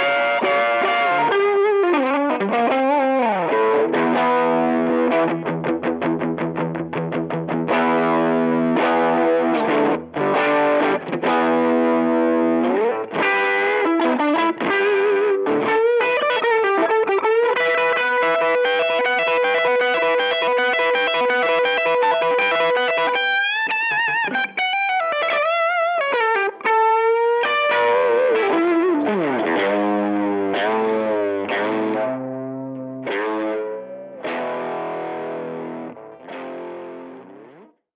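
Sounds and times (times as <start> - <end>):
overdriven electric guitar: 0.0 - 37.9.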